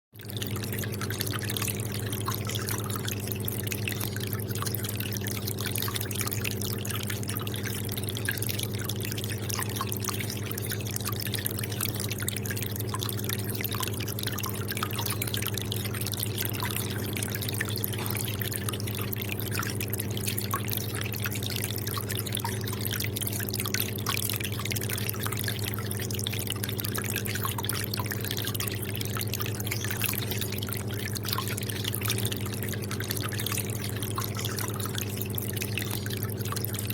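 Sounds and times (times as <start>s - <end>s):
aquarium water bubbling: 0.2s - 36.9s.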